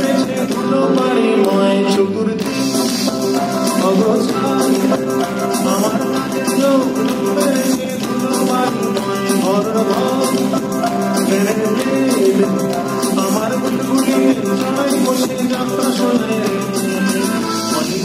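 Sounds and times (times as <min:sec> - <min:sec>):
guitar: 0:00.0 - 0:18.0
keyboard: 0:00.0 - 0:18.0
man singing: 0:00.0 - 0:18.0
hand drums: 0:02.4 - 0:18.0.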